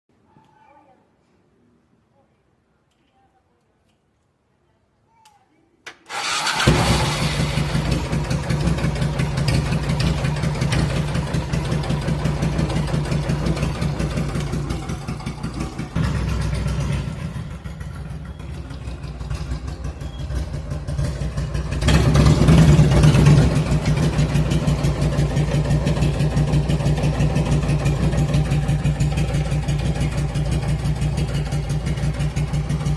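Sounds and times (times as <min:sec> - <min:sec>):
motorcycle engine starting and running: 0:06.1 - 0:32.9.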